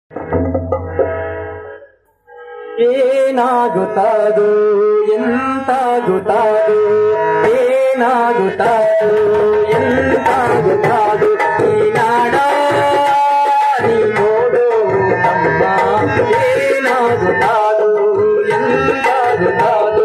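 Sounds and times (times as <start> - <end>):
harmonium: 0.1 - 20.0
tabla: 0.1 - 20.0
man singing into a microphone: 2.8 - 20.0.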